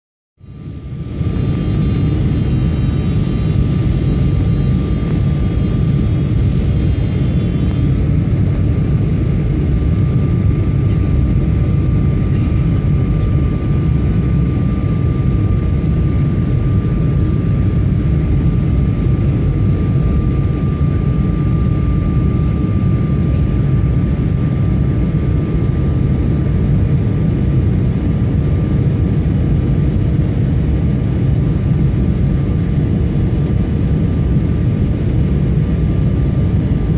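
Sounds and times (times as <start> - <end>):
airliner engines in cabin: 0.4 - 36.9
faint steady whine: 0.4 - 36.9.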